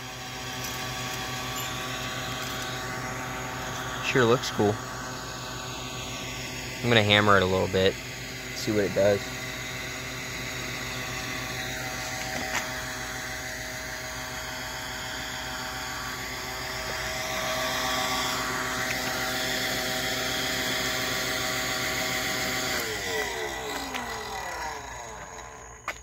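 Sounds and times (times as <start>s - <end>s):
electric blower motor whining: 0.0s - 26.0s.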